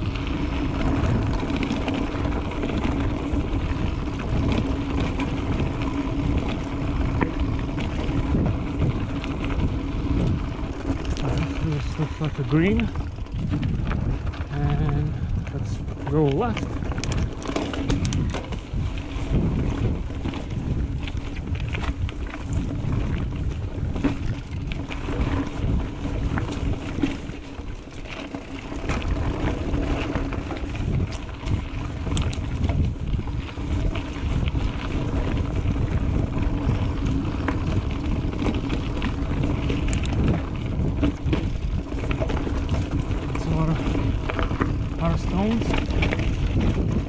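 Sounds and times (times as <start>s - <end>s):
bike clicks and rattles: 0.0s - 47.0s
low rumble of bike riding: 0.0s - 47.0s
wind rushing over microphone: 0.0s - 47.0s.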